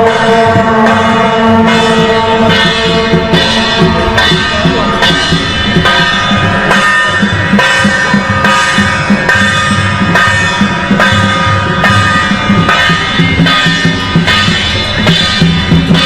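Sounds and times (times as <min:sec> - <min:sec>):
held instrumental notes: 0:00.0 - 0:16.0
steady drum beat: 0:00.0 - 0:16.0.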